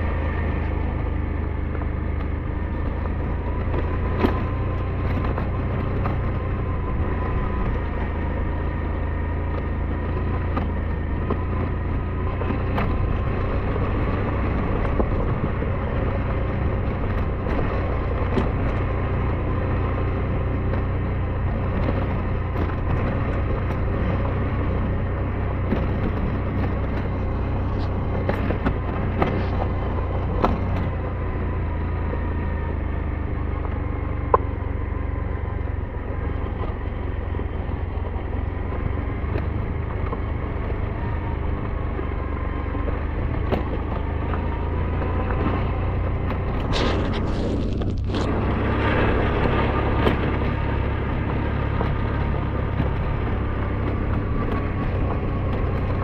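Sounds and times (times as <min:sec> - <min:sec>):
low rumble: 0:00.0 - 0:56.0
motorcycle engine running: 0:00.0 - 0:56.0.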